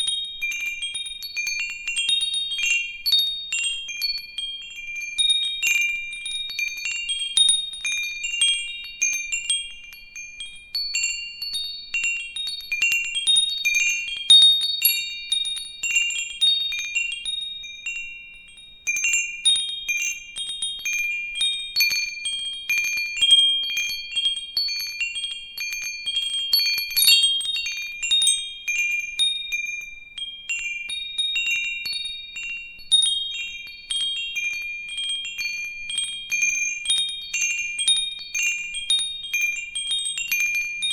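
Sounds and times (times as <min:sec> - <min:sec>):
metal wind chimes ringing: 0:00.0 - 0:40.9.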